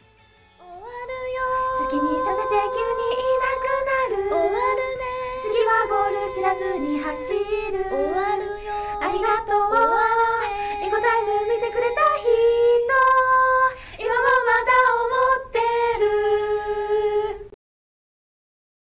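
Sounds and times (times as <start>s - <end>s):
female group singing: 0.6s - 17.5s.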